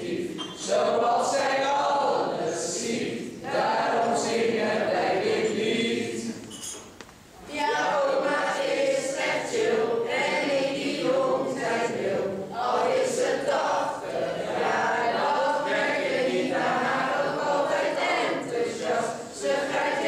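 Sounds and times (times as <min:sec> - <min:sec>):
group singing together: 0:00.0 - 0:06.7, 0:07.5 - 0:20.0.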